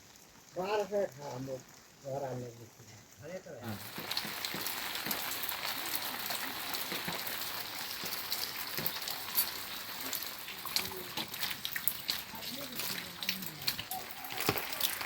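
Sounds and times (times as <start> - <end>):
raindrops ticking on a surface: 0.0 - 15.0
steady rain falling: 0.0 - 15.0.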